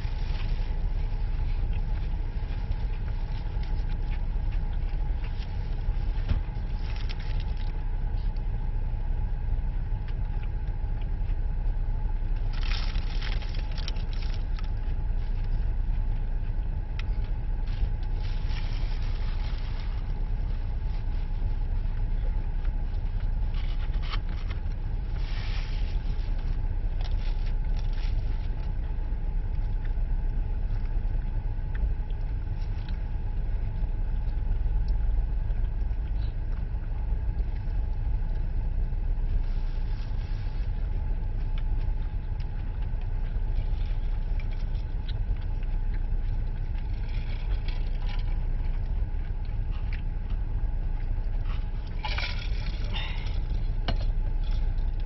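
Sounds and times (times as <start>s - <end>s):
car cabin rumble: 0.0s - 55.0s
faint hum: 0.0s - 55.0s.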